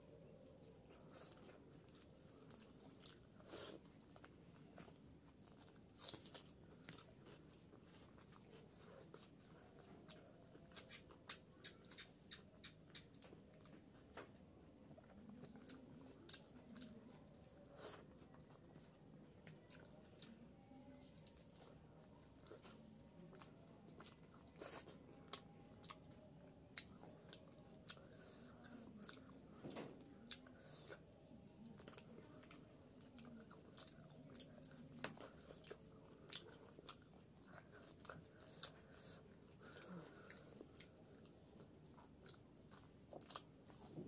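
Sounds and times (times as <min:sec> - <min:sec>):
person chewing food: 0:00.1 - 0:44.0.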